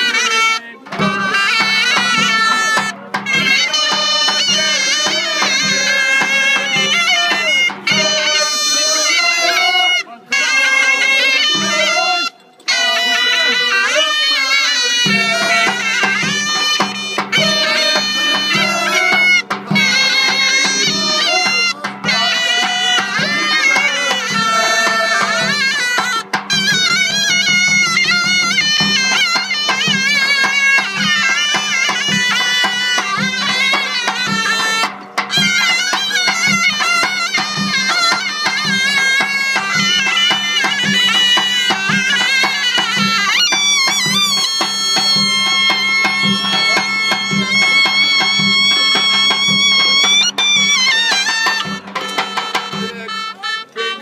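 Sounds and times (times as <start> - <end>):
drum beating: 0.0 - 54.0
shrill reed pipe melody: 0.0 - 54.0.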